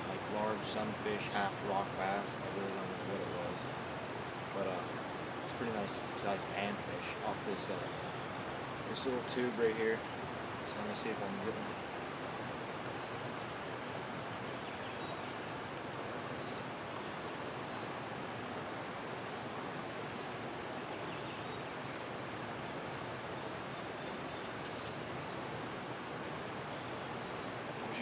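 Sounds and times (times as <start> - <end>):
creek water flowing: 0.0 - 28.0
faint bird chirps: 2.1 - 3.9, 4.6 - 18.1, 18.7 - 22.2, 22.8 - 28.0.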